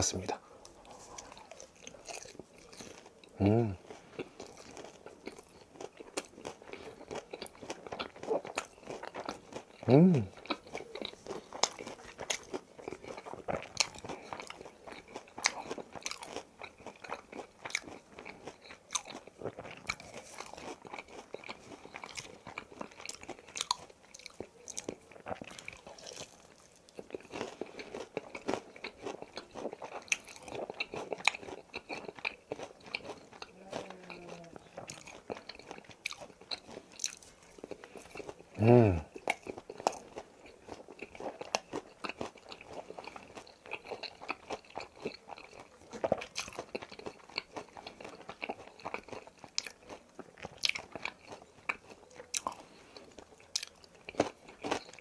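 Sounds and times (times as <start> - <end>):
crunching and chewing fried chicken: 0.0 - 55.0.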